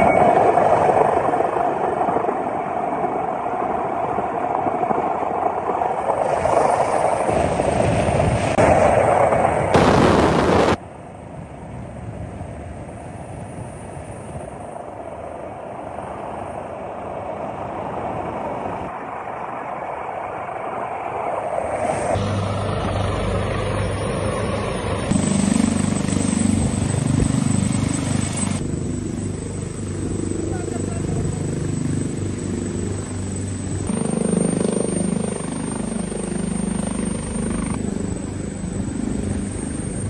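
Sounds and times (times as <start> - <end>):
helicopter rotor and engine: 0.0 - 40.0.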